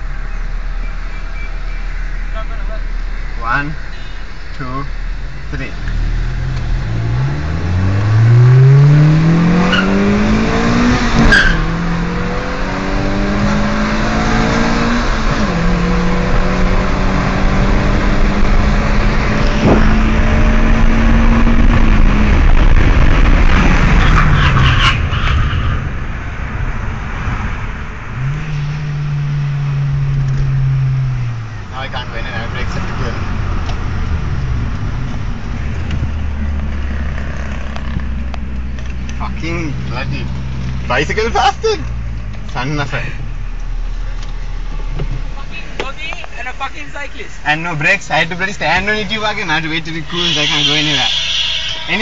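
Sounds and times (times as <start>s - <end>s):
road and wind noise: 0.0s - 52.0s
car engine accelerating: 4.4s - 50.6s.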